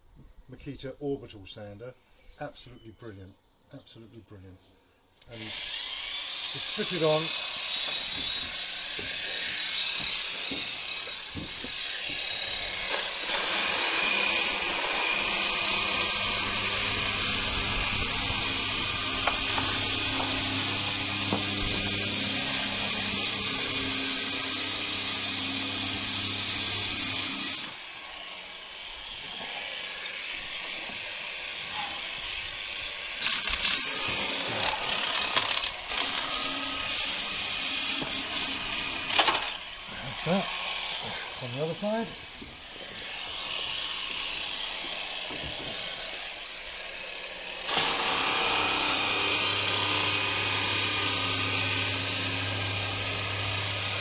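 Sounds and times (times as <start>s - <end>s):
sander on wood: 5.2s - 54.0s.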